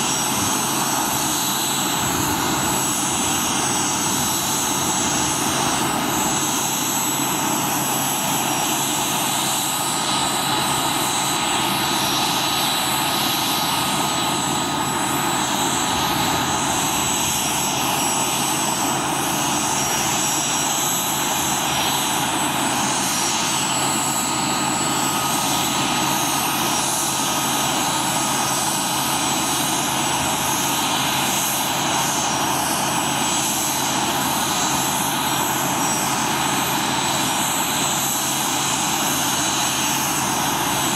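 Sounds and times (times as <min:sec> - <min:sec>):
helicopter turbine engines roaring: 0:00.0 - 0:40.9
high-pitched turbine whine: 0:00.0 - 0:40.9.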